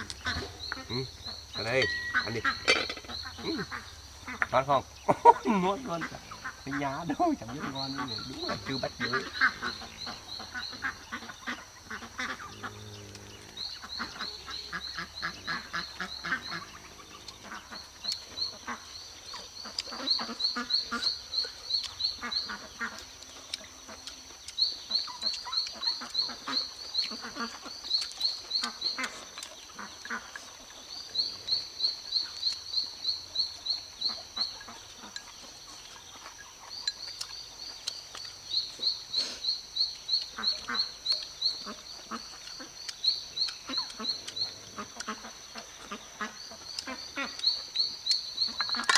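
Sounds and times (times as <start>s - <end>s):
frogs croaking: 0.0s - 48.9s
high insect drone: 0.0s - 48.9s
rapid chirping trills: 0.0s - 48.9s.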